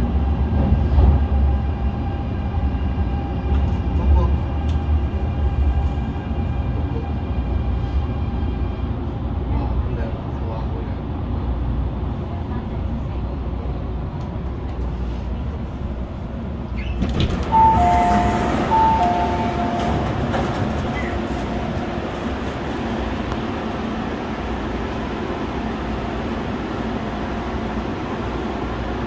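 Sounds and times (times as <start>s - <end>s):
train rumble on board: 0.0s - 29.0s.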